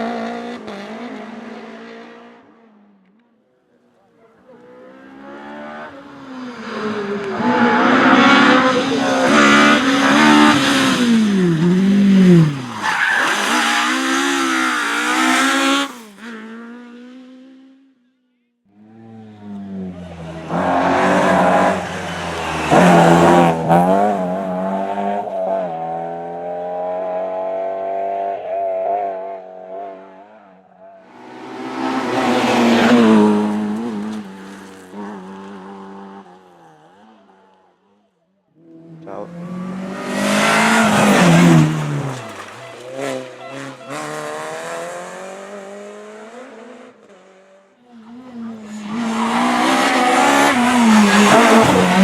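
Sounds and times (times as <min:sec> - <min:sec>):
rally car engine revving: 0:00.0 - 0:02.5, 0:04.4 - 0:17.8, 0:18.7 - 0:30.5, 0:31.1 - 0:37.5, 0:38.6 - 0:52.0.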